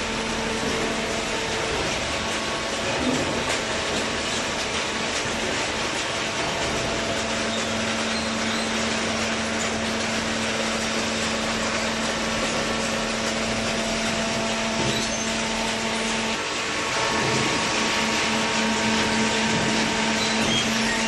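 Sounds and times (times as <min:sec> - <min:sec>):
baler machine running: 0:00.0 - 0:21.0
steady machine hum: 0:00.0 - 0:21.0.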